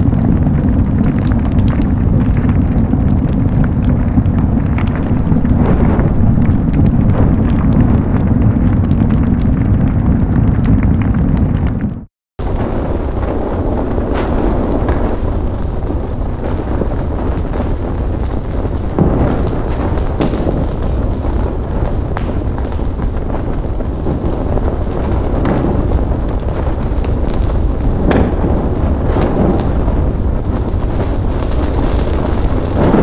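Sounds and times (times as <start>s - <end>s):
fire crackling and popping: 0.0s - 33.0s
flames rumbling: 0.0s - 33.0s.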